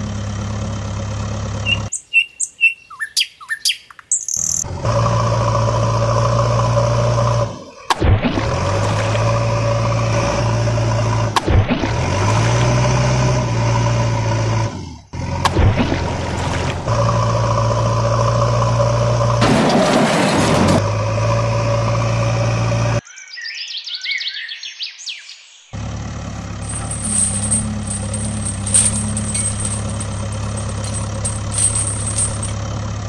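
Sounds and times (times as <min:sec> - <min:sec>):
vehicle engine running: 0:00.0 - 0:01.9, 0:04.6 - 0:23.0, 0:25.8 - 0:33.0.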